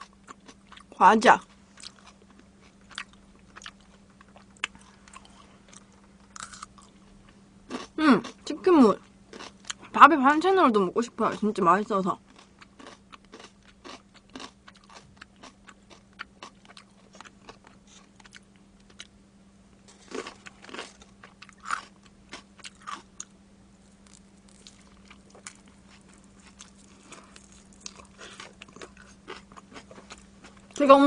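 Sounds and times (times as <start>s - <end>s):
chewing crunchy food: 0.0s - 7.1s, 7.7s - 8.4s, 9.0s - 9.9s, 12.2s - 19.1s, 19.9s - 30.8s
steady low hum: 0.0s - 31.0s.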